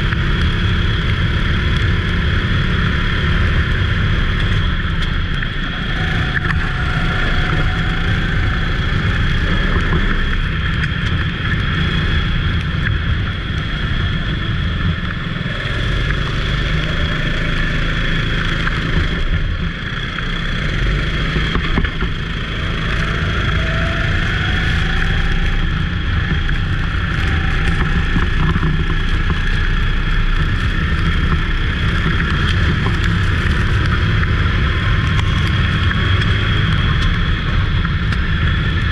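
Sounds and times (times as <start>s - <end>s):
go-kart engine running: 0.0s - 38.9s
rising whine: 0.0s - 38.9s.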